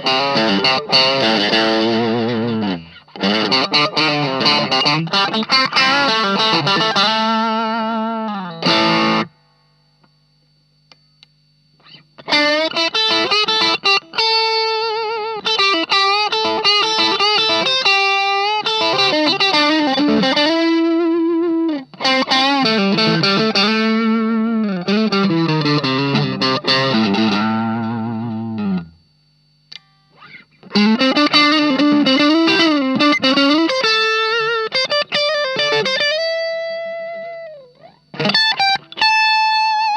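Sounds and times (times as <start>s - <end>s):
overdriven electric guitar lead: 0.0s - 10.2s, 11.3s - 39.9s
low amp hum: 0.0s - 39.9s.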